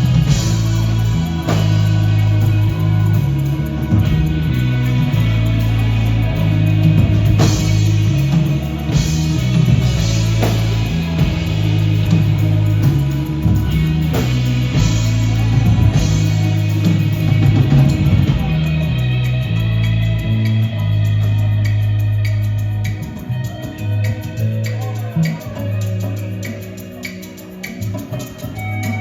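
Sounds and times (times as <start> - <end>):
bass line: 0.0 - 29.0
drum kit: 0.0 - 29.0
electric guitar: 0.0 - 29.0.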